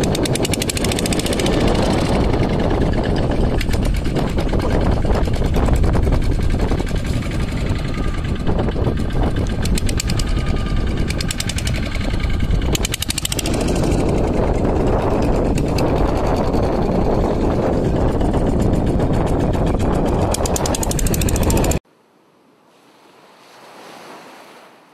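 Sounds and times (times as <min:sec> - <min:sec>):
fast even ticking: 0:00.0 - 0:21.8
outboard motor running: 0:00.0 - 0:21.8.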